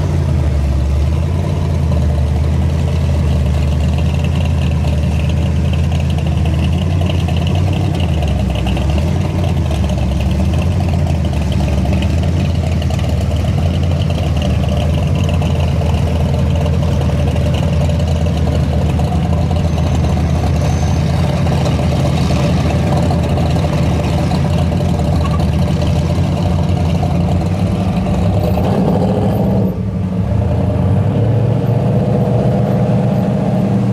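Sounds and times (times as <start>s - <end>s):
car engine idling: 0.0s - 30.3s.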